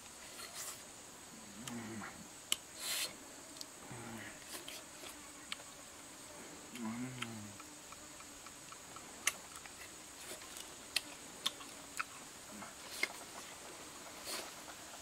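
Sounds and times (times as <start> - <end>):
crunchy chewing: 1.6 - 5.8, 6.7 - 15.0.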